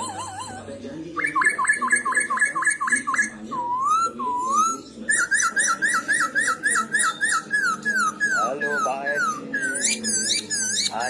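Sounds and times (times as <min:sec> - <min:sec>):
bird singing whistled phrases: 0:01.2 - 0:11.0.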